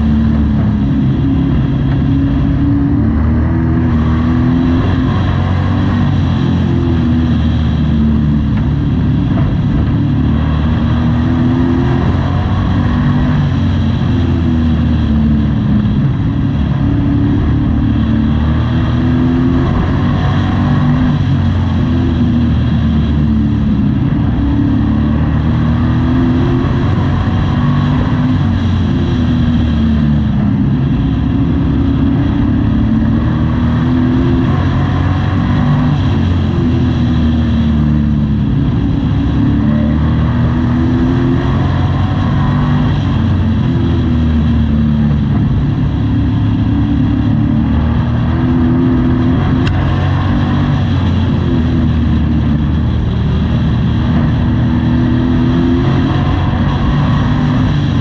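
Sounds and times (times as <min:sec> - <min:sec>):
race engine revving: 0:00.0 - 0:58.0.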